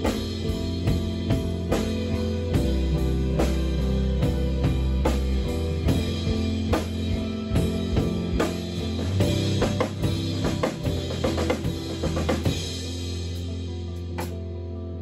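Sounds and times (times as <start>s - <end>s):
drum kit steady beat: 0.0s - 14.6s
live rock band playing: 0.0s - 14.8s.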